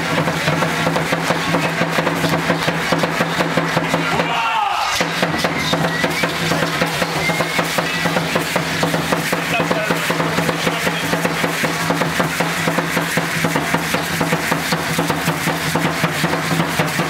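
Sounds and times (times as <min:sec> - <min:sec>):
drum beating fast rhythm: 0:00.0 - 0:17.0.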